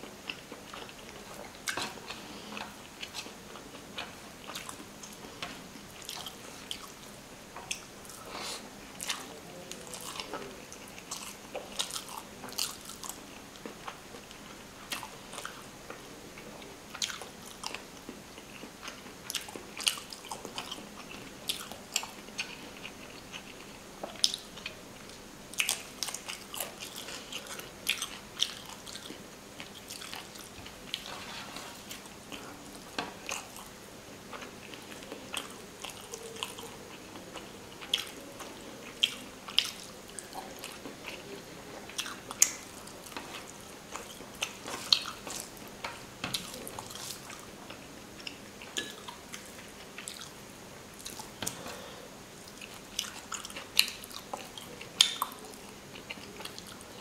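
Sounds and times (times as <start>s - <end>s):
person chewing: 0.0s - 16.0s, 16.9s - 57.0s.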